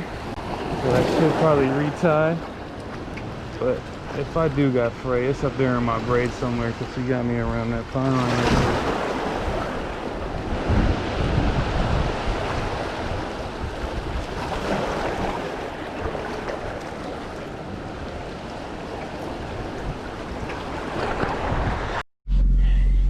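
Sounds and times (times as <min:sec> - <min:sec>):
surf washing on beach: 0:00.0 - 0:22.0
wind rumbling on microphone: 0:00.0 - 0:22.0.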